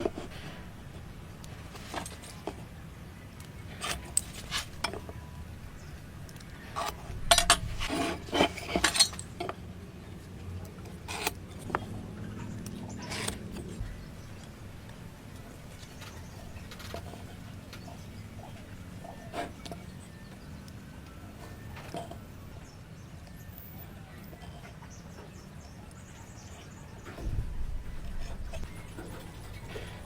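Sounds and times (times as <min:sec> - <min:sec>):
hard objects clicking and scraping: 0:00.0 - 0:09.7, 0:10.7 - 0:25.5, 0:27.0 - 0:30.0
low steady hum: 0:00.0 - 0:30.0.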